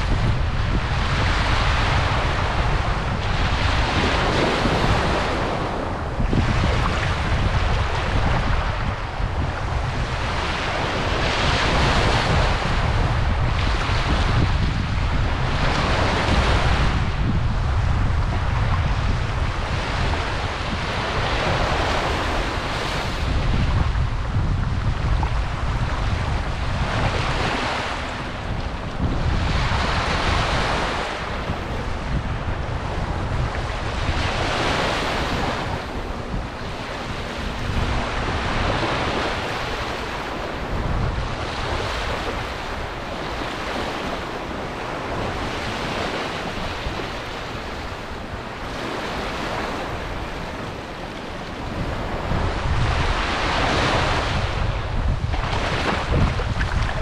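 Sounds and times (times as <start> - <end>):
waves washing over sand: 0.0 - 57.0
wind rumbling on microphone: 0.0 - 57.0.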